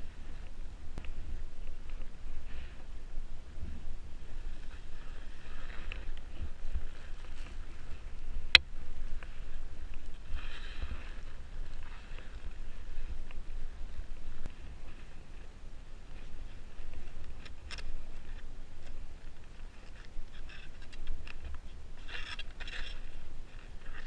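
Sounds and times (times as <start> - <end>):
wind rumble on microphone: 0.0 - 24.0
skis scraping on snow: 1.2 - 24.0.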